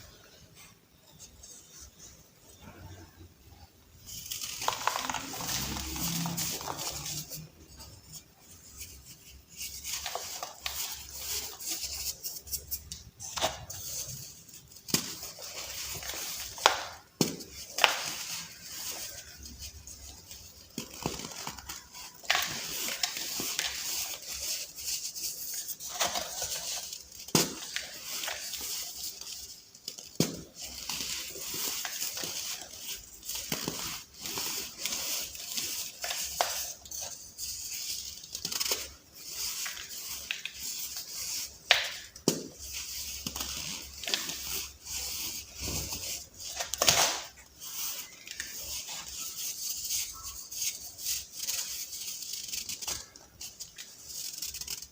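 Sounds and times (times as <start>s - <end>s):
baking soda balls crunching: 2.5s - 54.9s.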